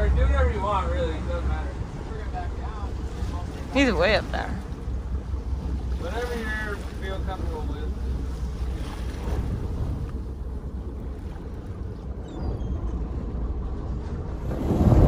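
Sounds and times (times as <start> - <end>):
boat engine rumble: 0.0 - 15.0
water noise: 0.0 - 15.0
wind: 0.0 - 15.0.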